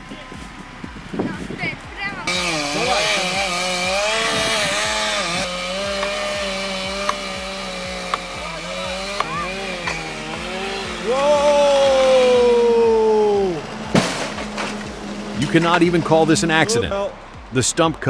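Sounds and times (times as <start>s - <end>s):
chainsaw engine revving: 0.0s - 17.6s.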